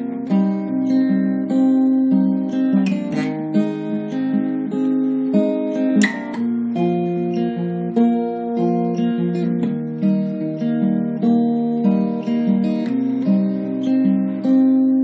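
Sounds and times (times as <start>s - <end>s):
acoustic guitar melody: 0.0s - 15.0s
guitar chords strummed: 0.0s - 15.0s.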